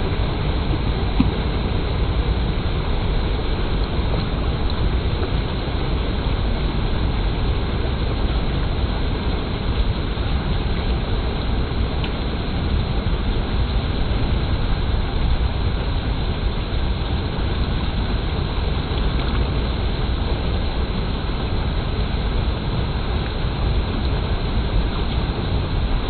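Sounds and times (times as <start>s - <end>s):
water flowing: 0.0s - 26.0s.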